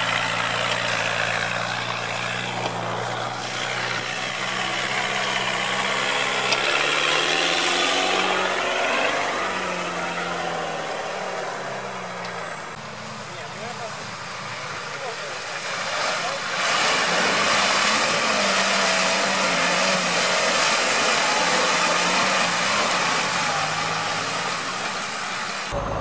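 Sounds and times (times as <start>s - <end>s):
off-road truck engine at low revs: 0.0s - 26.0s.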